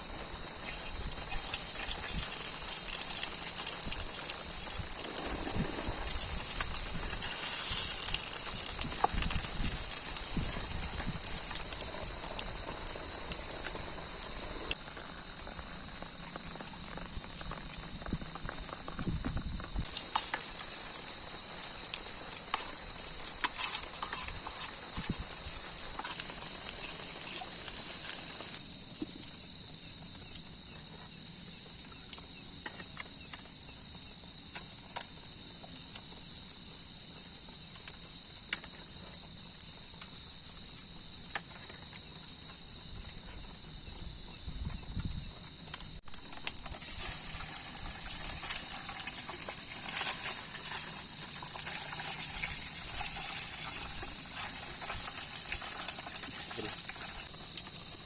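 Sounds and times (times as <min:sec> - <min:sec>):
forest insects chorus: 0:00.0 - 0:58.0.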